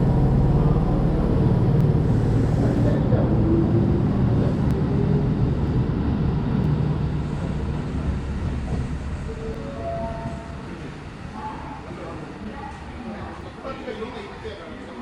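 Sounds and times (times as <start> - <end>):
electric train rumbling past: 0.0 - 14.4.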